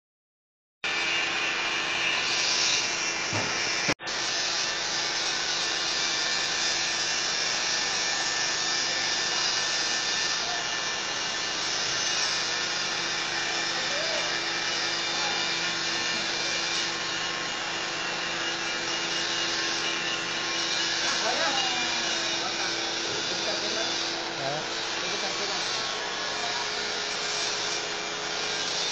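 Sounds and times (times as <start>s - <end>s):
welding arc crackling hiss: 2.0s - 28.9s.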